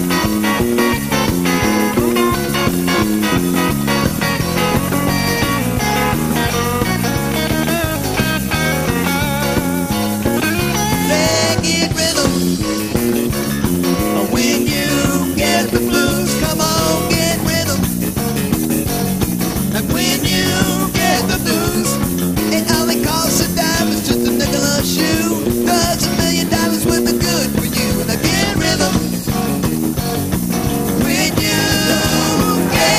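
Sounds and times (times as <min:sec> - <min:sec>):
electric guitar: 0:00.0 - 0:32.9
rock band playing: 0:00.0 - 0:32.9.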